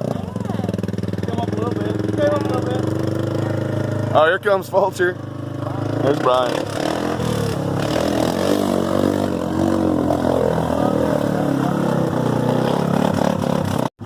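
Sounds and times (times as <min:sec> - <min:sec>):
atv engines revving: 0:00.0 - 0:14.0.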